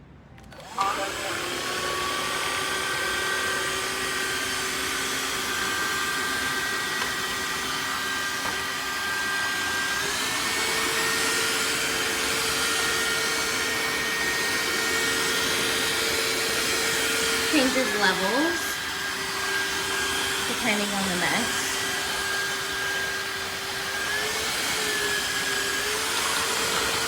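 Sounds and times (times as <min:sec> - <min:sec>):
floor cleaner motor whine: 0:00.0 - 0:27.0.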